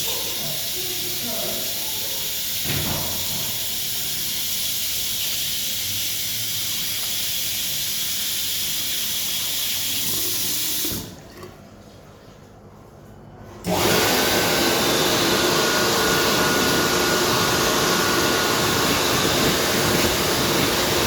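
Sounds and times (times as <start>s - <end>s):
hand dryer blowing air: 0.0s - 11.1s, 13.6s - 21.0s.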